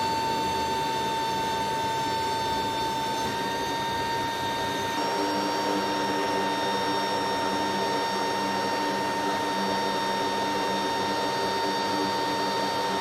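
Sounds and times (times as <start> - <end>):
turboprop engines whining and rushing: 0.0 - 13.0.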